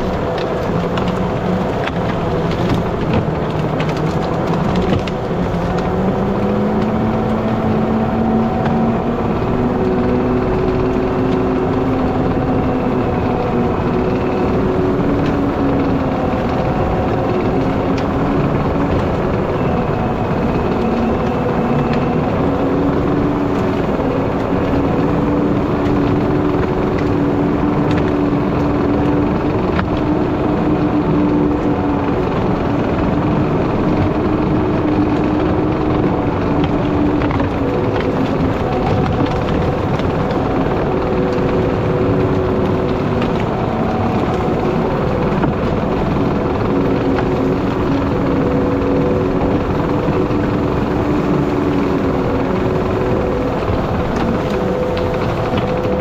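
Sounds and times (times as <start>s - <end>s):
logs and brush cracking: 0.0s - 56.0s
skid steer engine under load: 0.0s - 56.0s.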